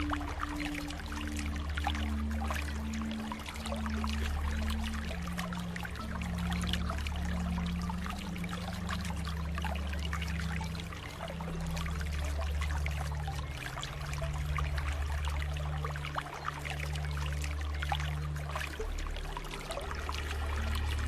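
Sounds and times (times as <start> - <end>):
low hum shifting pitch: 0.0 - 21.0
water trickling and splashing: 0.0 - 21.0.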